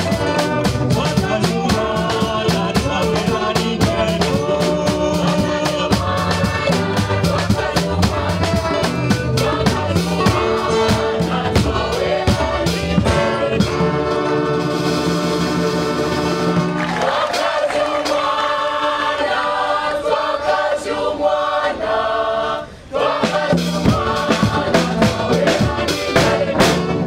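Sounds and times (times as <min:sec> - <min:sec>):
hand drums: 0:00.0 - 0:18.2, 0:23.3 - 0:27.0
mixed choir singing: 0:00.0 - 0:27.0.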